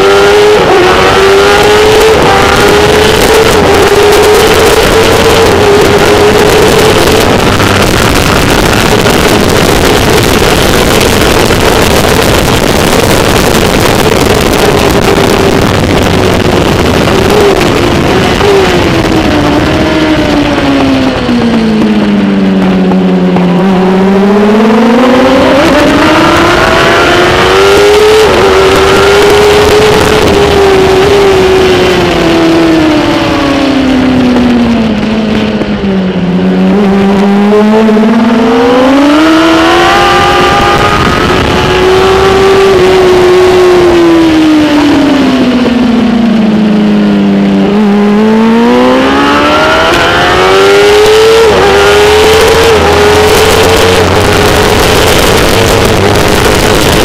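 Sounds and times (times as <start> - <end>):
motorcycle engine at racing speed: 0.0 - 57.0
wind rushing: 0.0 - 57.0.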